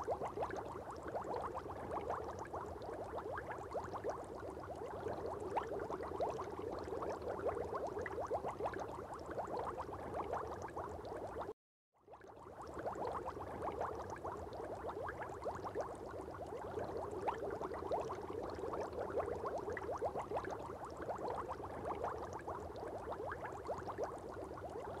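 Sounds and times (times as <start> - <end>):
aquarium air bubbling: 0.0 - 11.5, 12.2 - 25.0.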